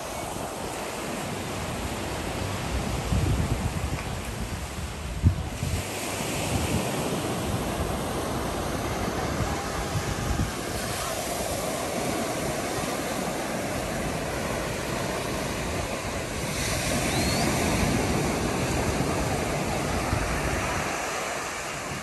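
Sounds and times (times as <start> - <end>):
surf breaking on sand: 0.0 - 22.0
wind buffeting microphone: 0.0 - 22.0.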